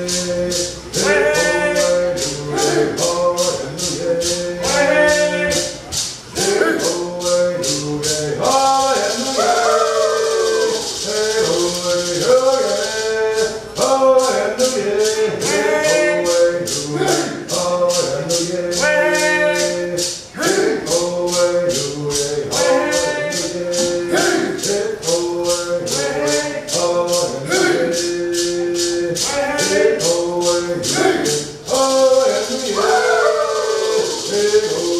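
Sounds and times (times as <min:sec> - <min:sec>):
rattle shaken in a beat: 0:00.0 - 0:34.9
voices singing: 0:00.0 - 0:34.9.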